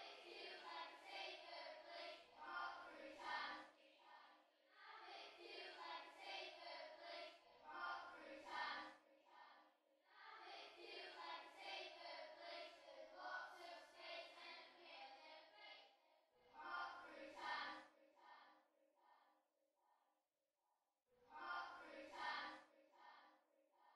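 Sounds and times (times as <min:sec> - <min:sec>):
children singing quietly: 0:00.0 - 0:19.2, 0:21.3 - 0:23.9.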